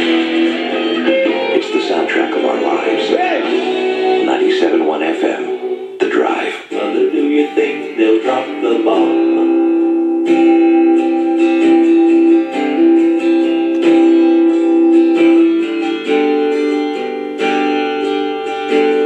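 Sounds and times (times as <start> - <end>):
rock song on small radio speaker: 0.0 - 19.0.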